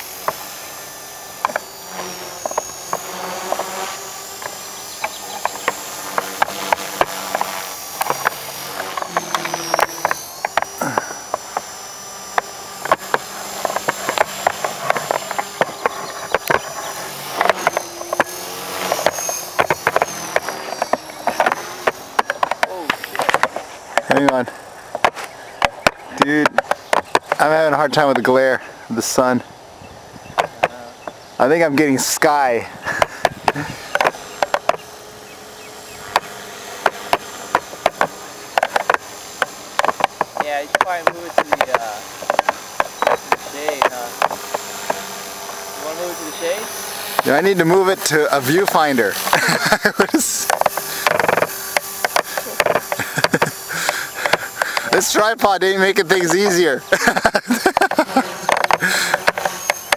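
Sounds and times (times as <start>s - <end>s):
faint steady hum: 0.0s - 59.9s
rc helicopter motor and rotor whine: 0.0s - 59.9s
sharp clicks: 2.4s - 28.4s, 32.9s - 59.9s.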